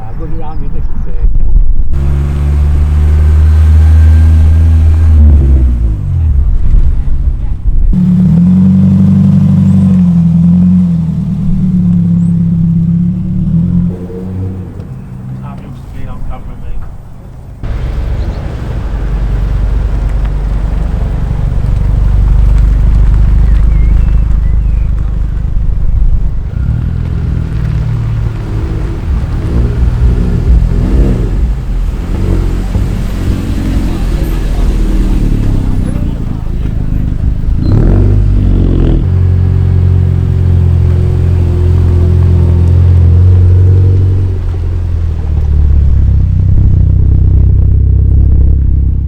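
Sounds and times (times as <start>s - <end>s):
car engine and exhaust rumbling: 0.0s - 49.0s.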